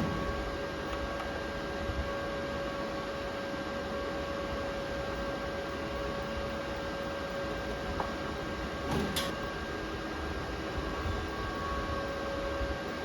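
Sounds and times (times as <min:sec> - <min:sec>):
welding machine hum and whine: 0:00.0 - 0:13.0.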